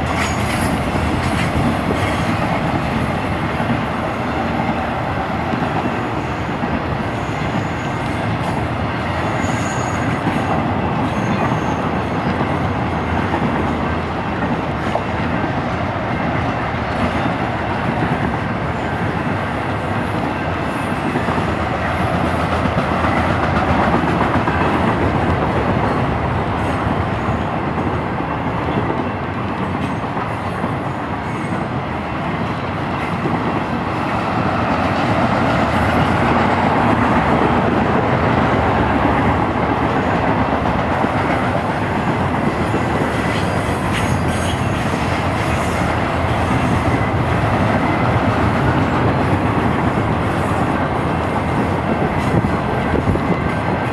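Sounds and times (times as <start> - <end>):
freight train wheels rumbling on rail: 0.0 - 53.9.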